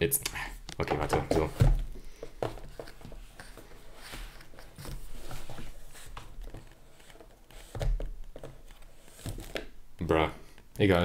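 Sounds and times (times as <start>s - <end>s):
cardboard packaging rustling: 0.8s - 9.8s.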